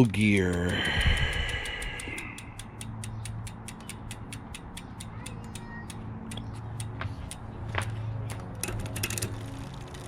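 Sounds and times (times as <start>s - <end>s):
bicycle freehub ratcheting clicks: 0.0s - 10.0s.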